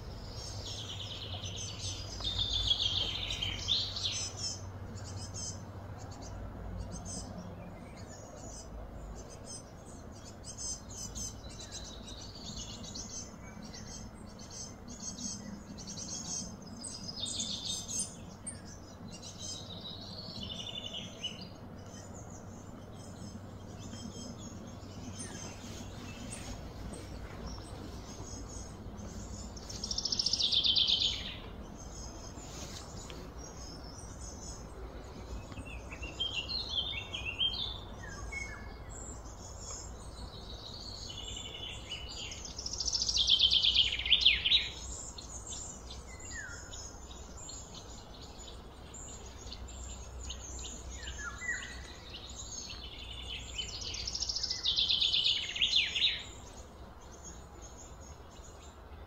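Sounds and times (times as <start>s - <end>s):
low background rumble: 0.0s - 55.5s
birds chirping: 0.0s - 59.0s.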